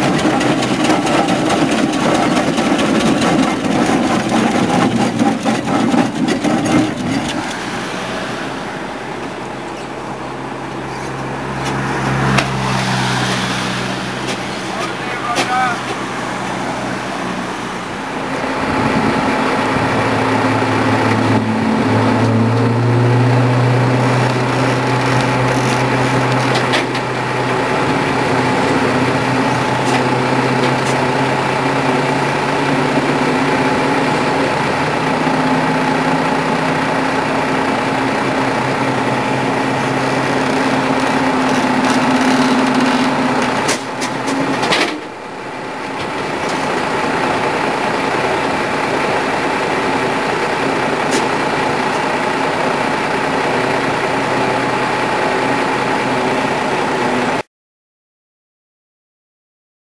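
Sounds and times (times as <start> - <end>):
machinery humming and whining: 0.0 - 57.4.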